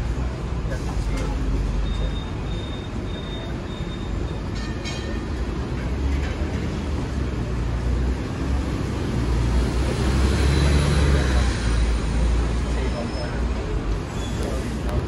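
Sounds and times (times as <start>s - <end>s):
tram rumbling along track: 0.0s - 15.0s.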